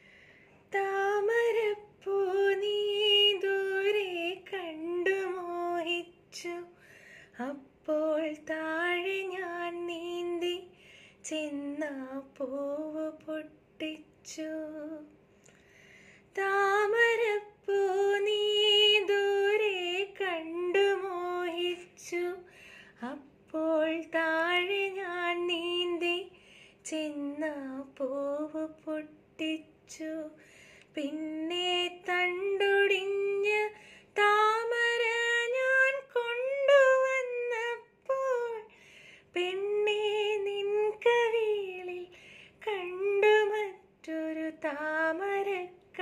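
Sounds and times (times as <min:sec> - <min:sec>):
woman singing unaccompanied: 0:00.7 - 0:06.8, 0:07.4 - 0:15.2, 0:16.3 - 0:46.0.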